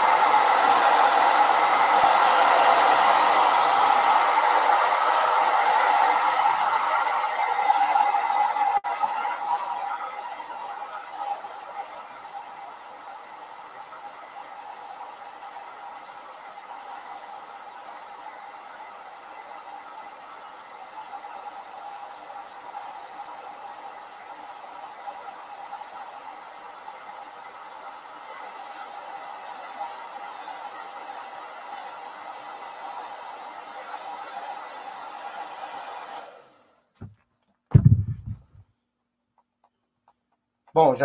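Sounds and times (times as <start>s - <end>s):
hair dryer running: 0.0s - 38.4s.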